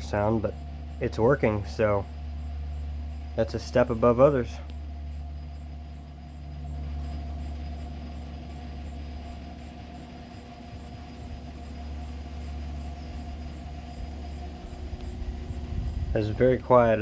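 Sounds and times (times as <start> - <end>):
box fan motor humming: 0.0 - 17.0.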